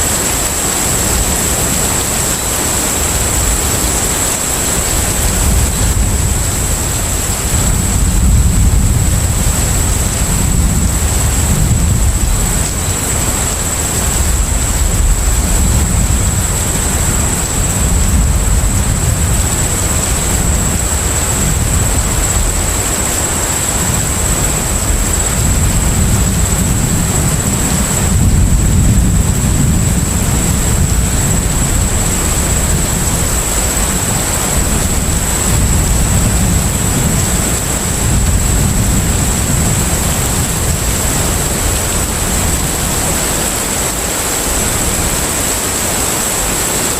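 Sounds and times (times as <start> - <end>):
sea wash noise: 0.0 - 46.9
ship engine low rumble: 0.0 - 46.9.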